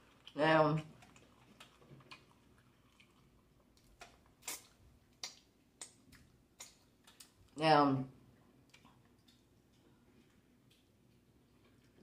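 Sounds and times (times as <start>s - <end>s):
soft chewing and wet smacking: 0.0s - 7.6s, 8.2s - 12.0s.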